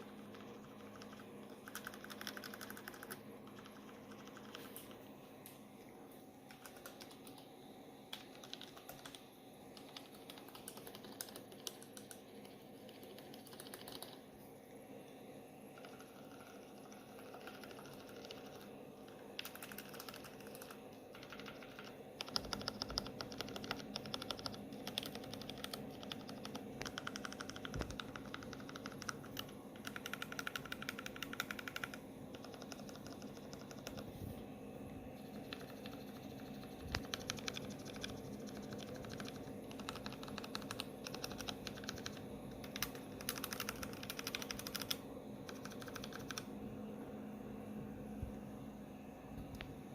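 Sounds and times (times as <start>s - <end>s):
mechanical keyboard typing: 0.0s - 5.0s, 6.5s - 7.5s, 8.1s - 14.3s, 15.8s - 34.1s, 35.2s - 46.5s.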